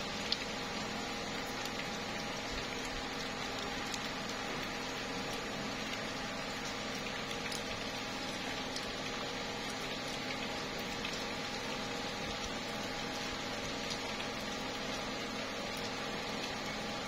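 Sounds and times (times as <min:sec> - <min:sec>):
rain pattering on leaves: 0:00.0 - 0:17.0.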